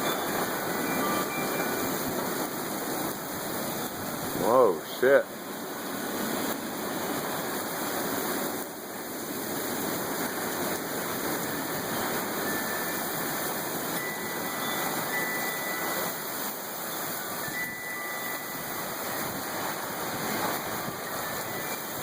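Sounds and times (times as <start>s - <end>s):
heavy rain in strong wind: 0.0s - 22.0s.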